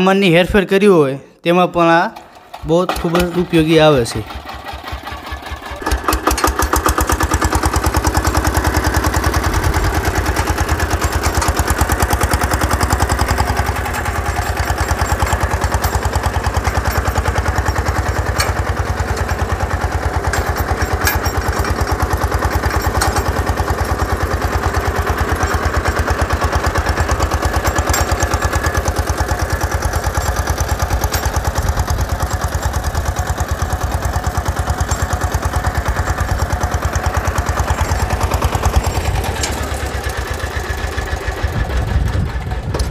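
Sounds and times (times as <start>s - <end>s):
diesel tractor engine chugging: 2.2s - 42.9s.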